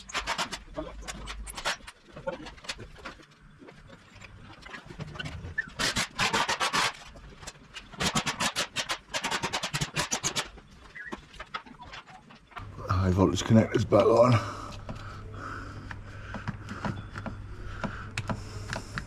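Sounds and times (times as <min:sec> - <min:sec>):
scraping and handling noise: 0:00.0 - 0:19.0.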